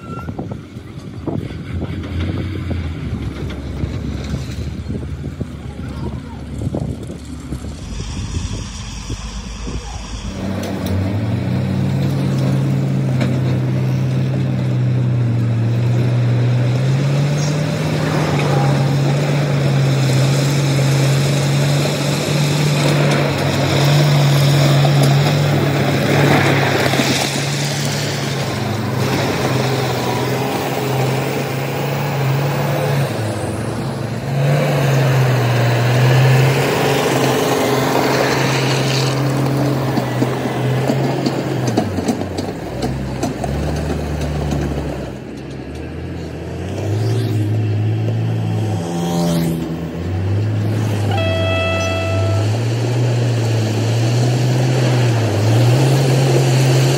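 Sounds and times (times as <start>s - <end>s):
diesel construction machinery running: 0.0s - 56.9s.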